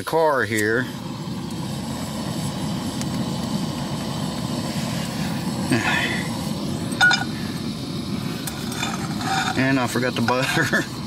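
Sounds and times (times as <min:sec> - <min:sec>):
camp stove burner: 0:00.0 - 0:11.0.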